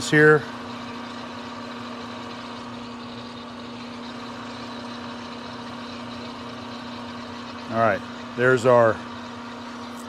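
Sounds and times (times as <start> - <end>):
lathe humming: 0.0 - 10.0.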